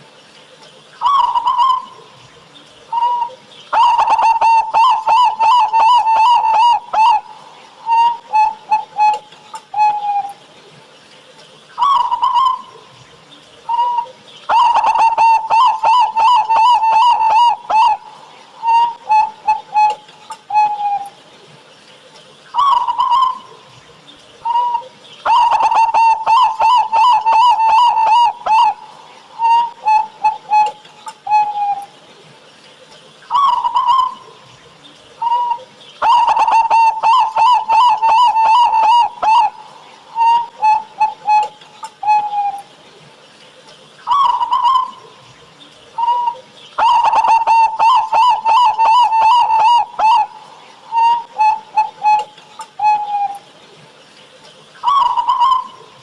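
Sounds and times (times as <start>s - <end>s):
dove cooing song: 0.2s - 56.0s.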